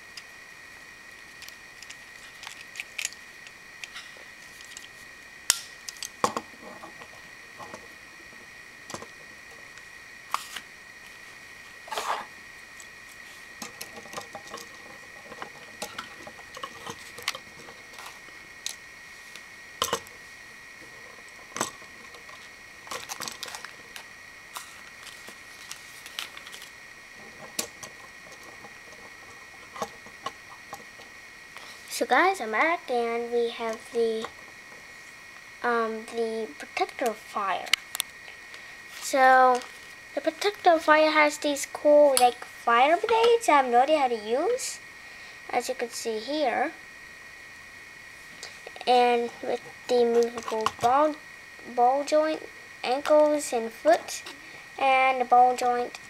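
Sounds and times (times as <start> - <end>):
steady high-pitched hum: 0.0 - 56.0.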